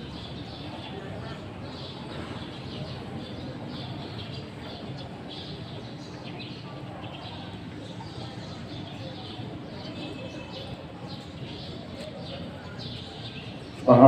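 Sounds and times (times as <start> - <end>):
murmur of crowd: 0.0 - 14.0
small birds chirping: 0.0 - 14.0.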